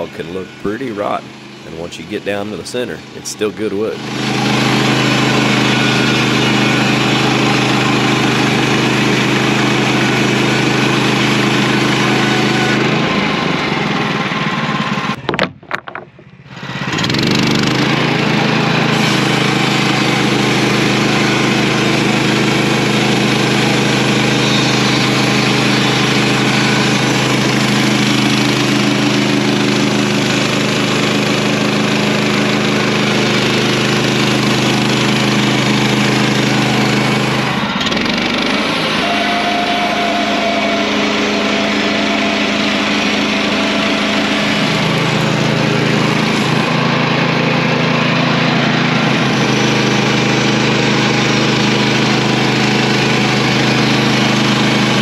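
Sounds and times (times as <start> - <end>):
blade sawing through log: 0.0 - 14.2, 16.5 - 55.0
sawmill engine running: 0.0 - 55.0.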